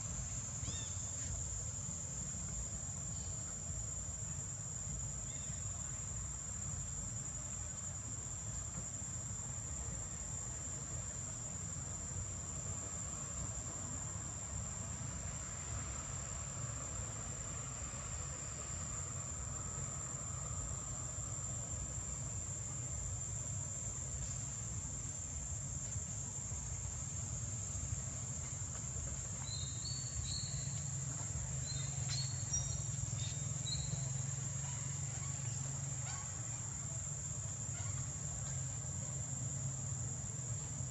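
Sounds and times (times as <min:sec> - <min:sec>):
insect chorus trilling: 0:00.0 - 0:40.9.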